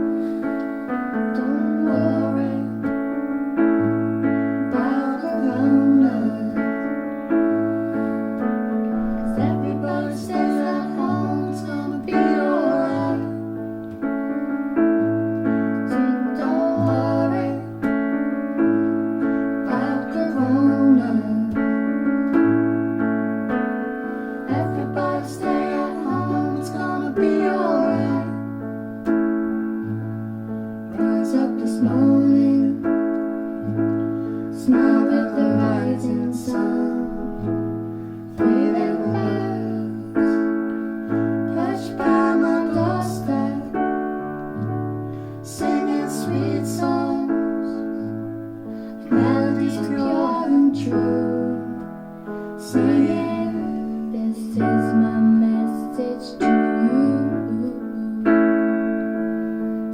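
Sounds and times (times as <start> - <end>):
electric piano chords: 0.0 - 59.9
keyboard melody: 0.0 - 59.9.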